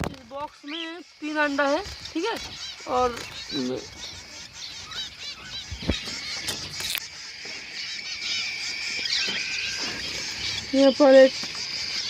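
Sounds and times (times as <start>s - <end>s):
finches chirping and honking: 0.0s - 12.0s.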